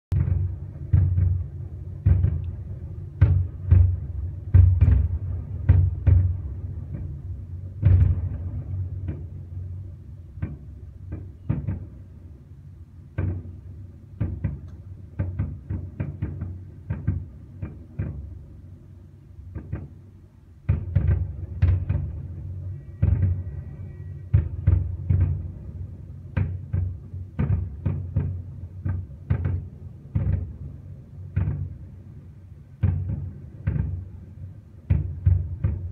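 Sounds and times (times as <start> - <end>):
fireworks bangs and booms: 0.1 - 35.9.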